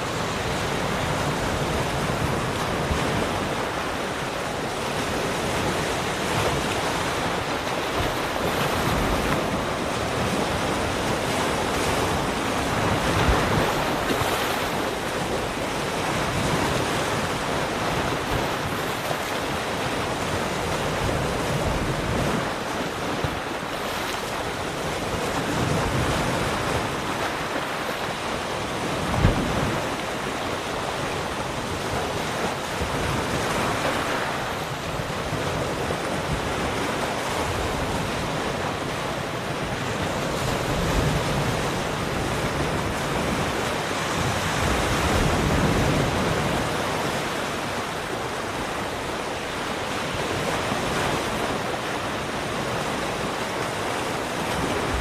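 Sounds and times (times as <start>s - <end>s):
ocean waves washing on shore: 0.0s - 55.0s
wind buffeting microphone: 0.0s - 55.0s.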